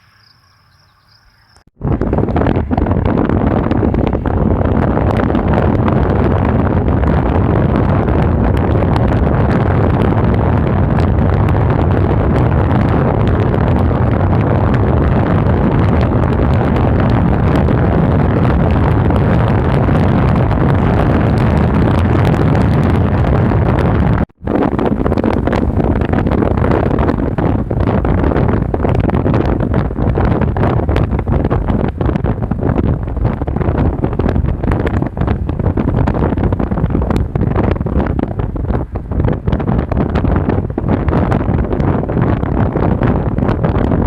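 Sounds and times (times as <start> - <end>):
wind blasting microphone: 0.0 - 44.0.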